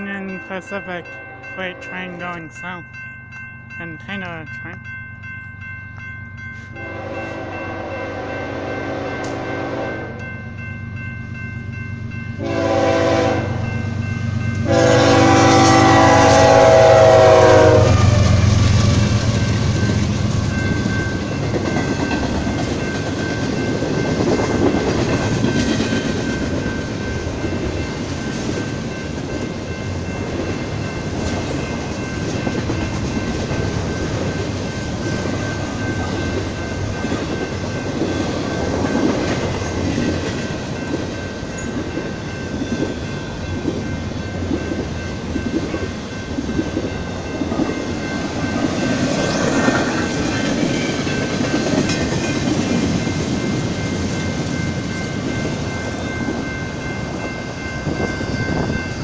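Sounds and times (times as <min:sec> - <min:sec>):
train wheels rumbling on rails: 0:10.2 - 0:59.0.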